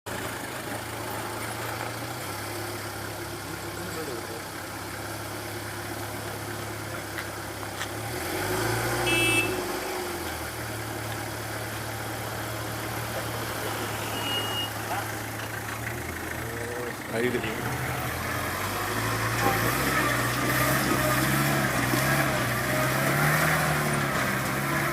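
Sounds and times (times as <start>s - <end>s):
jeep engine running and revving: 0.1s - 24.9s.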